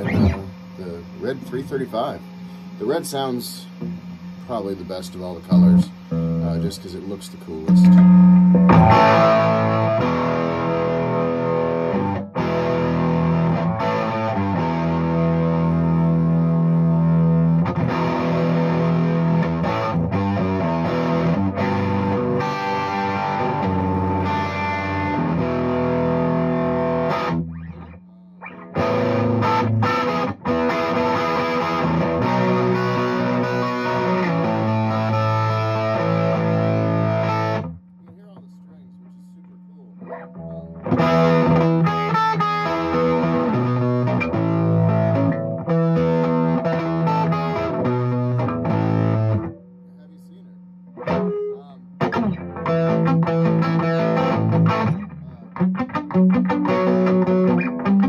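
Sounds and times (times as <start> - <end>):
electric guitar chords: 0.0 - 38.8, 39.5 - 58.0.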